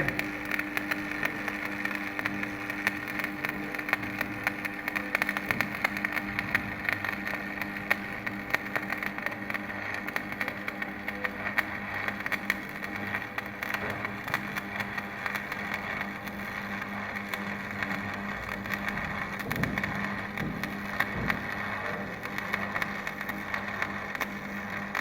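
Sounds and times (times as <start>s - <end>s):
welding arc crackling and sizzling: 0.0s - 25.0s.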